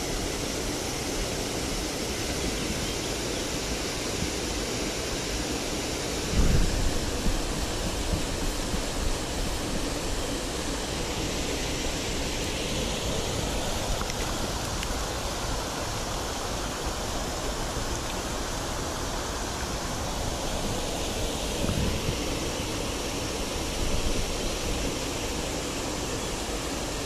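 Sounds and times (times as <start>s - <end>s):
stream flowing: 0.0s - 27.0s
water rushing over a weir: 0.0s - 27.0s.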